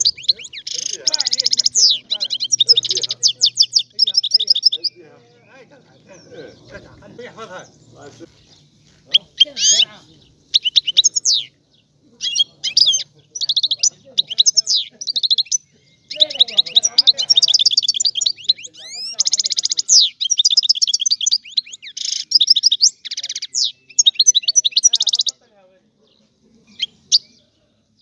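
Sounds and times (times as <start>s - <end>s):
goldfinch singing: 0.0s - 25.4s, 26.0s - 28.0s.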